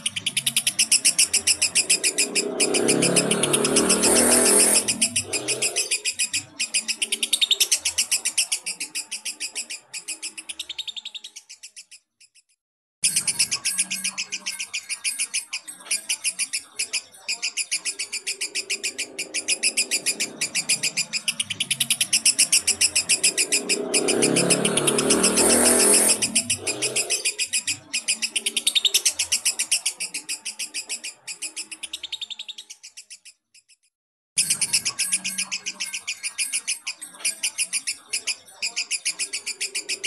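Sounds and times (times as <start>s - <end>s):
lovebird chattering: 0.0s - 12.1s, 13.0s - 33.4s, 34.4s - 40.0s.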